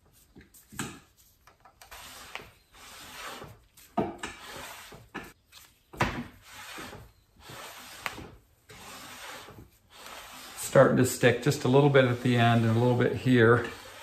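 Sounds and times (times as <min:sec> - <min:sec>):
metal slide scraping rub: 0:01.8 - 0:05.4, 0:06.3 - 0:14.0.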